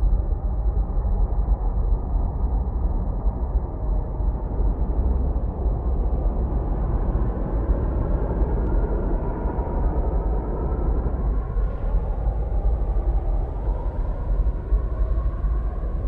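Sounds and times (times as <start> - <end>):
deep rumbling drone: 0.0 - 16.0.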